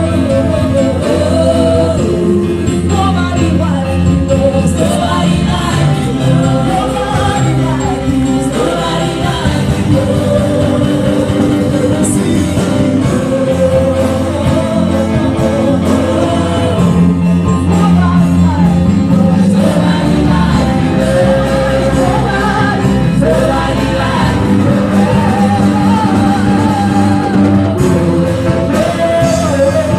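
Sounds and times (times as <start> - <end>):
live band playing: 0.0 - 29.9
woman leading gospel song: 0.0 - 29.9.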